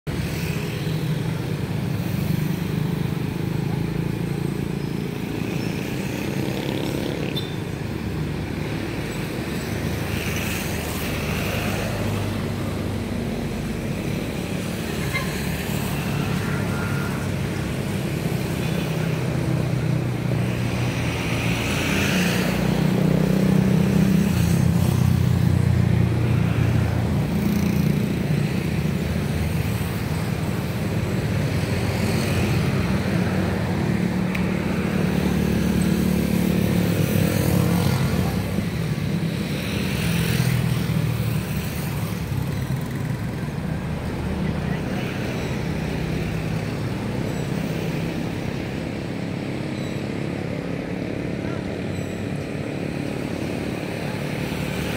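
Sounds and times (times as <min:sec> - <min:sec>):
traffic noise: 0:00.0 - 0:54.9
vehicle engines rumbling: 0:00.0 - 0:54.9.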